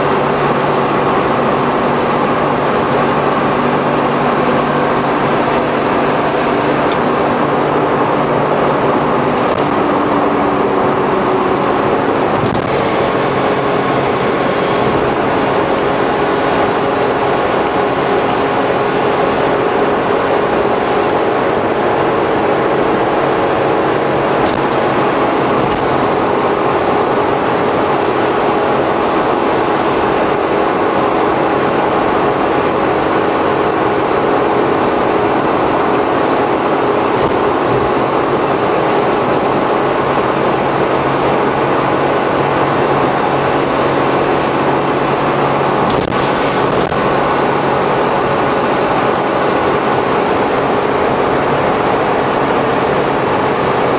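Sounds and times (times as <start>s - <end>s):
road and wind noise: 0.0s - 53.9s
van engine humming: 0.0s - 53.9s.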